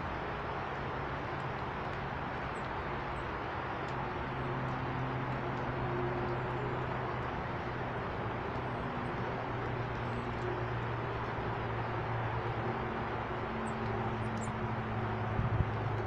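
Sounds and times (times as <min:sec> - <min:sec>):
distant traffic rumble: 0:00.0 - 0:16.0
low engine hum: 0:00.0 - 0:16.0.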